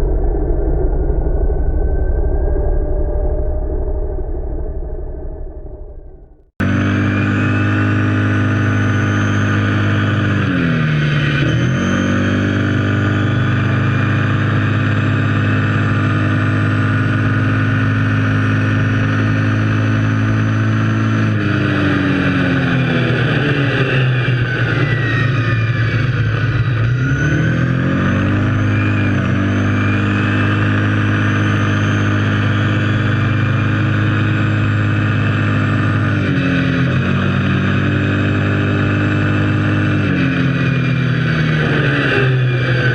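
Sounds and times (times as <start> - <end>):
atv engine running: 4.9 - 42.9.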